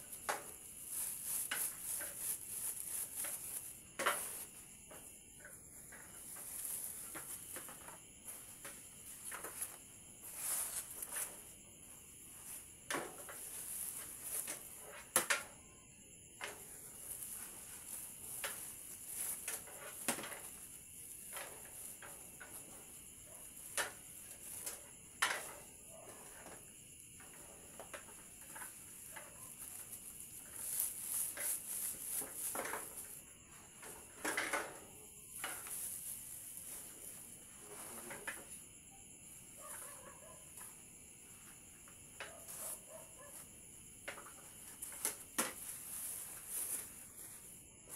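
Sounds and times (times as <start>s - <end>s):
steady high hiss: 0.0s - 39.7s, 40.6s - 47.9s.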